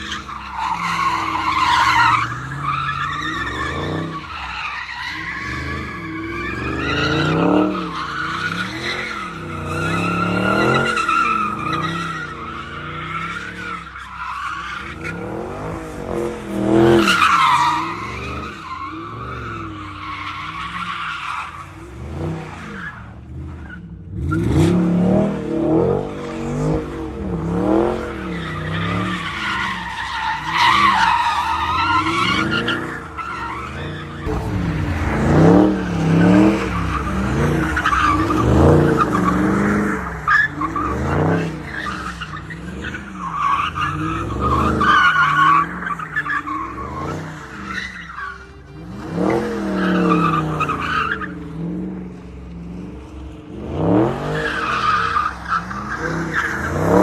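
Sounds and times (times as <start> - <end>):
car engine revving: 0.0 - 57.0
tyres squealing and skidding: 0.0 - 57.0.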